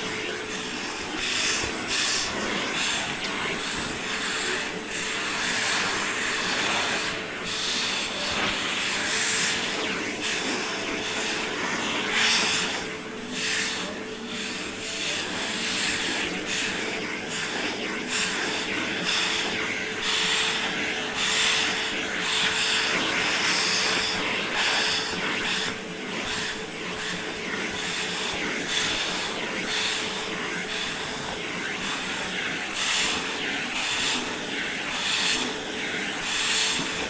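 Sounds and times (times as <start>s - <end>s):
nozzle air hiss through fur: 0.0s - 37.0s
vacuum cleaner motor whine: 0.0s - 37.0s.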